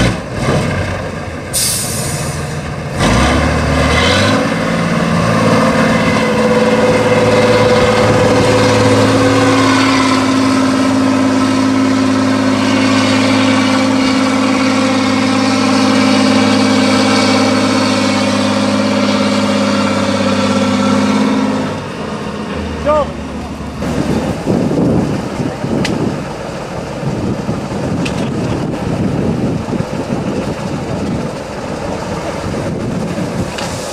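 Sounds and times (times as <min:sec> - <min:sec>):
diesel truck engine at high revs: 0:00.0 - 0:33.9.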